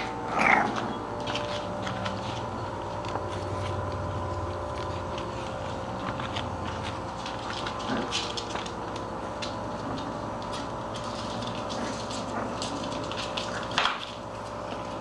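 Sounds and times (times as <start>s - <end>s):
puppies scuffling: 0.0s - 15.0s
steady background hum: 0.0s - 15.0s.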